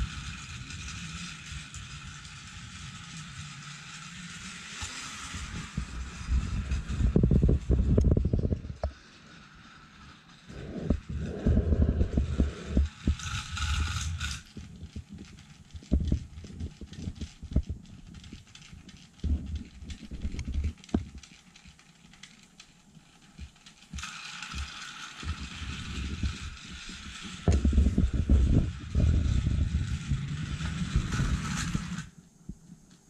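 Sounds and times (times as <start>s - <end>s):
high whirring noise: 0.0s - 33.0s
toy train track clicks and knocks: 0.0s - 33.0s.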